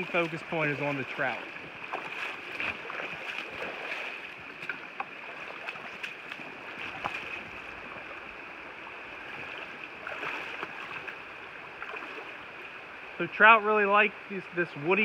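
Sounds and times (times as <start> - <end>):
splashes and clicks of wading: 0.0 - 8.4, 9.1 - 12.7
creek water running over rocks: 0.0 - 15.0.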